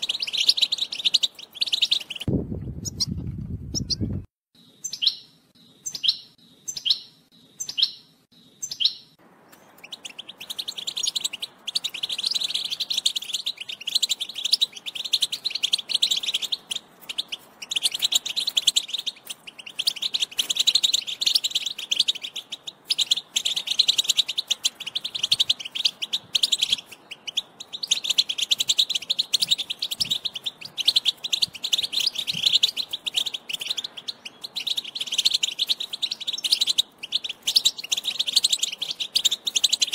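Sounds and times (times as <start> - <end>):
goldfinch calls and twittering song: 0.0 - 39.9.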